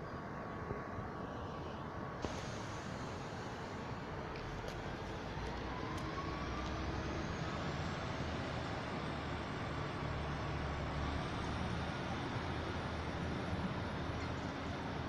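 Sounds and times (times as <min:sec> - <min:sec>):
faint rising whine: 0:00.0 - 0:12.6
train engine drone: 0:00.0 - 0:15.0.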